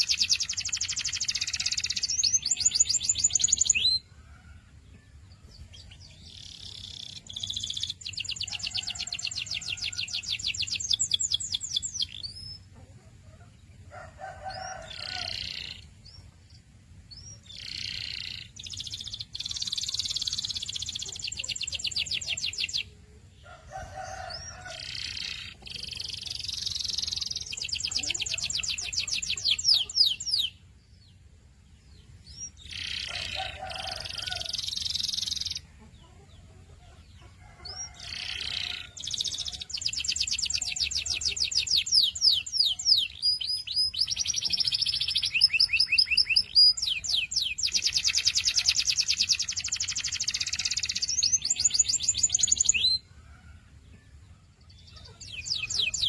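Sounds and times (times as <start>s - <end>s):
canary singing trills: 0.0s - 4.6s, 5.4s - 53.6s, 54.6s - 56.0s.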